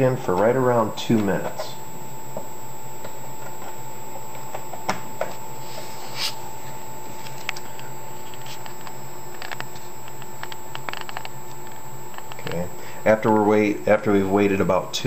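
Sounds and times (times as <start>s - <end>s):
electrical hum with high whine: 0.0s - 15.0s.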